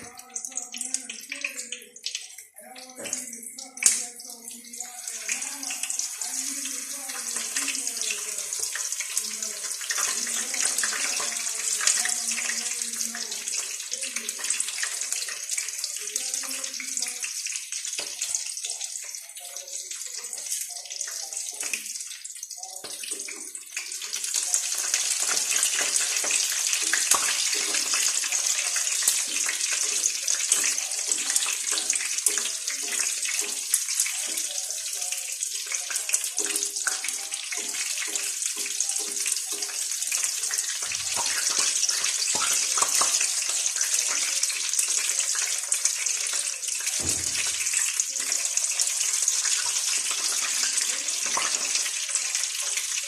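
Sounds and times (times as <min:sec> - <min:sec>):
meat sizzling in hot oil: 0:00.0 - 0:53.0.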